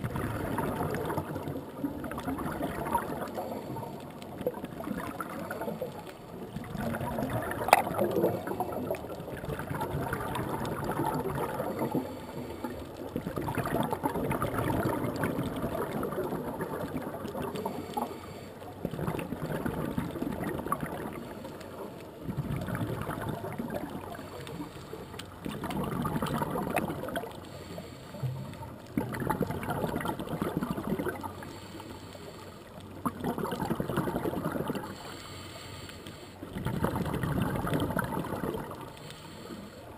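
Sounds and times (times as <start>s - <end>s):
scuba regulator bubbling exhalations: 0.0s - 32.0s, 32.8s - 35.2s, 36.4s - 39.9s.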